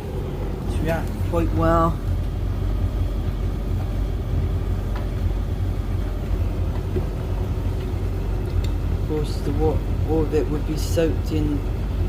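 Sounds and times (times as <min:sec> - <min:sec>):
washing machine drum rumbling: 0:00.0 - 0:12.0.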